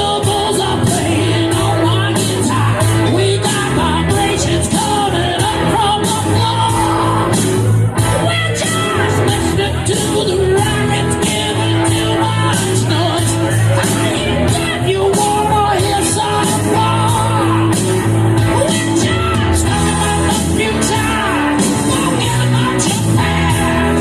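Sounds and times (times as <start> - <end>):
person singing lead vocal: 0.0 - 24.0
rock band playing: 0.0 - 24.0.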